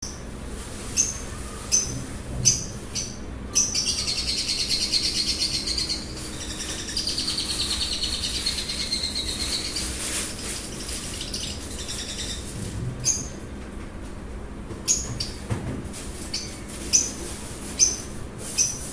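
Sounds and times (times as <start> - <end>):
birds chirping and twittering: 0.9 - 13.5, 14.8 - 15.6, 16.3 - 18.9.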